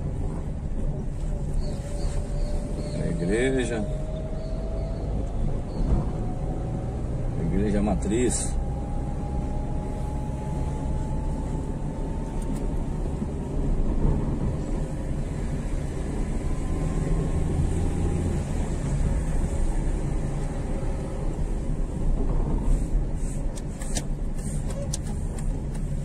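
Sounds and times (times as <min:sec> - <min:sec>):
vehicle engine and tyre rumble: 0:00.0 - 0:26.0.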